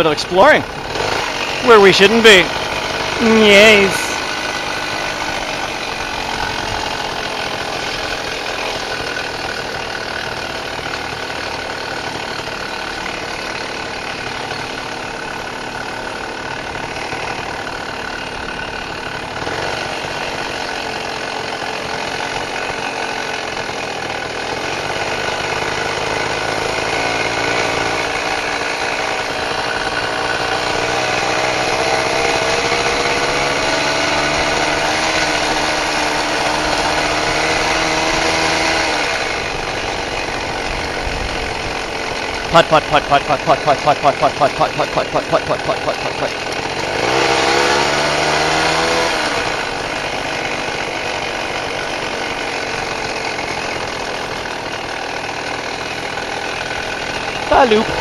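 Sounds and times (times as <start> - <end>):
moped engine running: 0.0 - 58.0.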